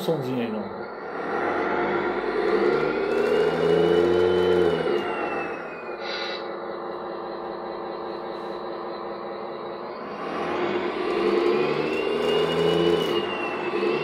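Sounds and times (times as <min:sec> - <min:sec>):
simulated diesel truck engine: 0:00.0 - 0:14.0
turbo whistle: 0:00.8 - 0:14.0.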